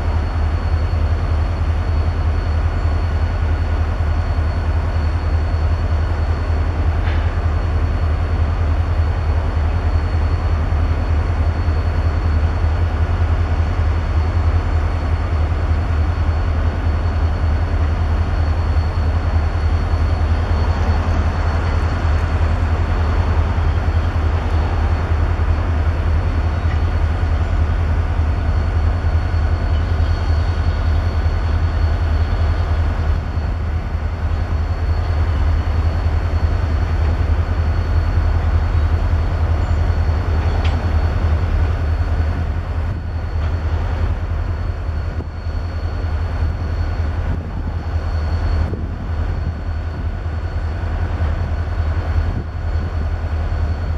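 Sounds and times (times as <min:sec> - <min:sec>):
diesel locomotive engine rumbling: 0:00.0 - 0:53.9
faint high whine: 0:00.0 - 0:53.9.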